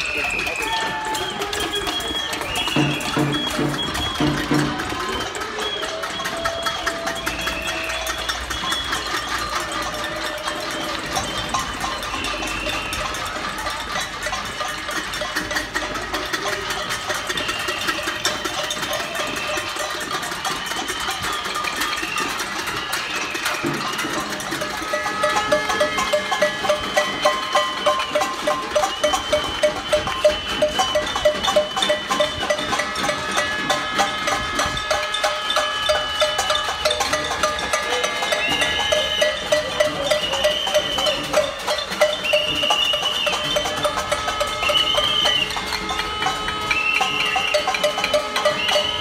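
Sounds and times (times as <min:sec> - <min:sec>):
pots and pans being banged: 0:00.2 - 0:49.0.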